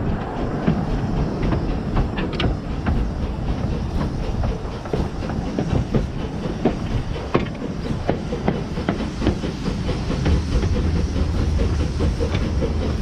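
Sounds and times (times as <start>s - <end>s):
train rumbling: 0.0s - 13.0s
wheels clicking over rail joints: 0.0s - 13.0s.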